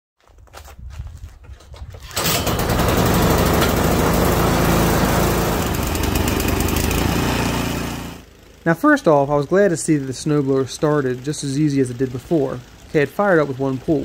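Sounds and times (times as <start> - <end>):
snowblower engine starting and running: 1.9 - 14.0.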